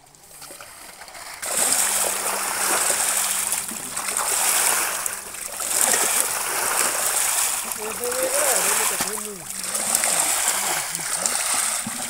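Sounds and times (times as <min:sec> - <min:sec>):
mud and water splashing: 0:00.0 - 0:12.0.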